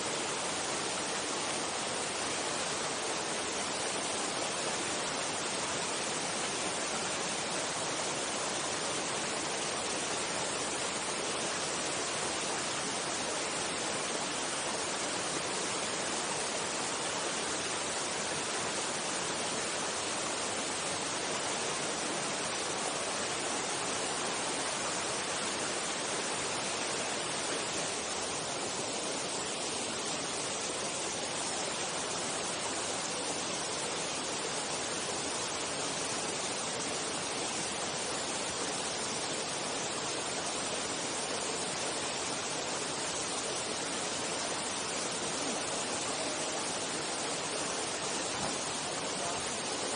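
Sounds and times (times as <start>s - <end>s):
stream water rushing: 0.0s - 49.9s.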